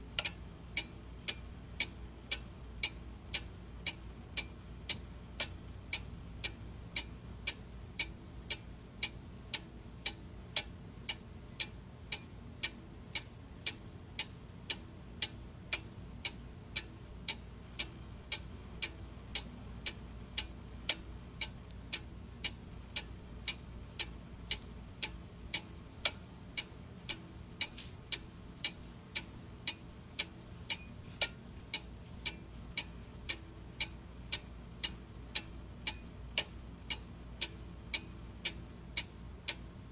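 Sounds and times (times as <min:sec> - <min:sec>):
clock ticking: 0:00.0 - 0:39.9
faint low hum: 0:00.0 - 0:39.9.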